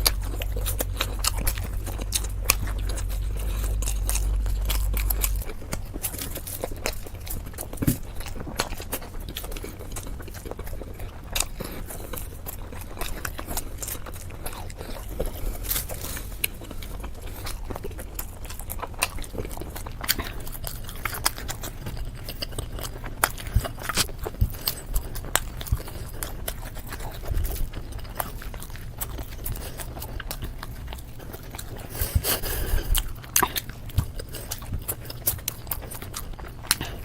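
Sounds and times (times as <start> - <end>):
low hum: 0.0 - 36.3
person chewing: 0.0 - 37.0.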